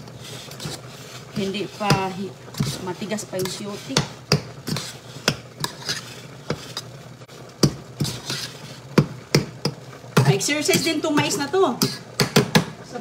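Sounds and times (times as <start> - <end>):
spoon scraping a metal pot: 0.0 - 12.3.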